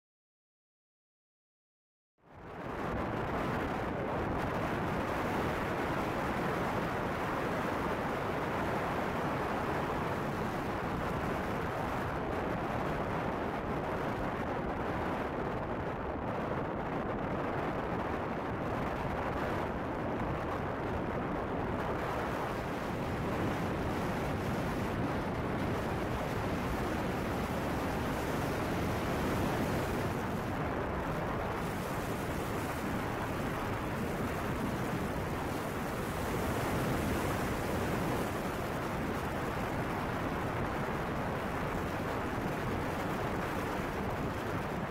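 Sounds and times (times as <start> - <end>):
car road and wind noise: 2.3 - 44.9.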